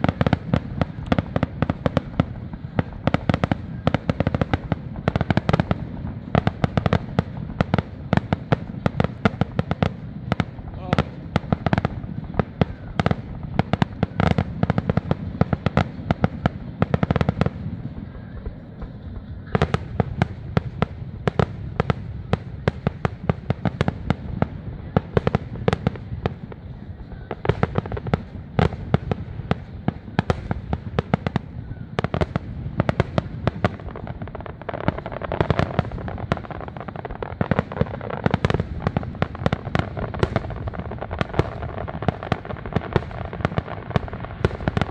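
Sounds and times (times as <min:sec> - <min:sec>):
fireworks barrage: 0:00.0 - 0:44.9.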